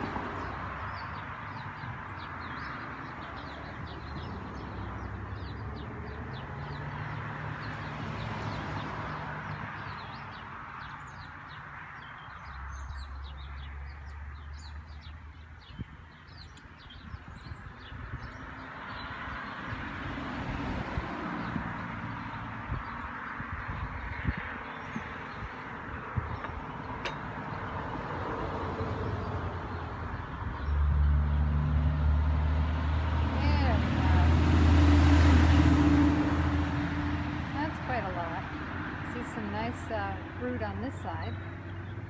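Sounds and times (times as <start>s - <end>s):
small birds chirping: 0.0s - 20.3s, 21.0s - 31.4s, 37.6s - 42.0s.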